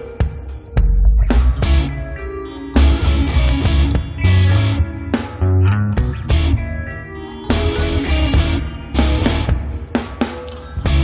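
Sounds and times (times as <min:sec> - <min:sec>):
drum and cymbal hits: 0:00.0 - 0:06.6, 0:07.5 - 0:11.0
heavy rock backing track: 0:00.0 - 0:11.0.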